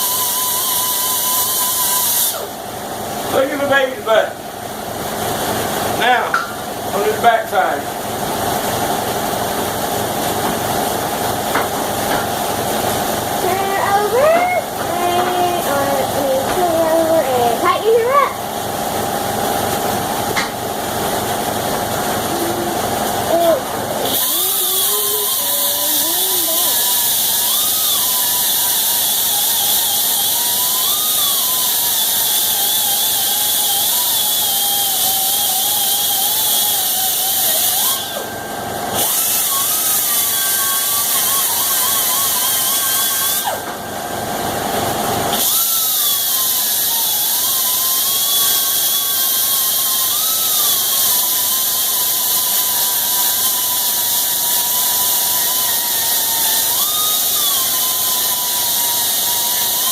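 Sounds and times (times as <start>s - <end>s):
air polishing tool whining: 0.0s - 59.9s.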